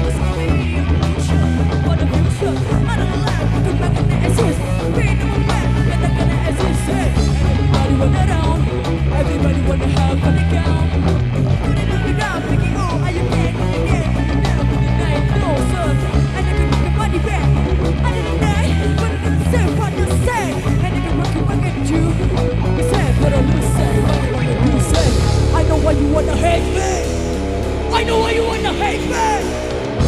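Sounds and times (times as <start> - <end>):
bass guitar: 0.0 - 30.0
drums: 0.0 - 30.0
sliding electric guitar lines: 0.0 - 30.0.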